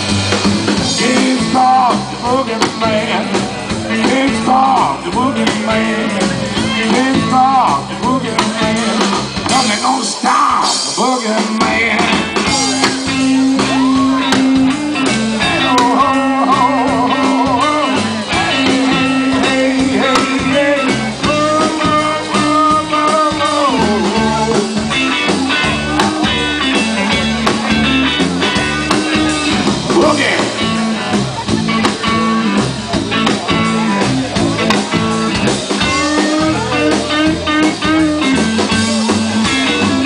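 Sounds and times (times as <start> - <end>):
bass line: 0.0 - 40.0
drum kit: 0.0 - 40.0
electric guitar lead: 0.0 - 40.0.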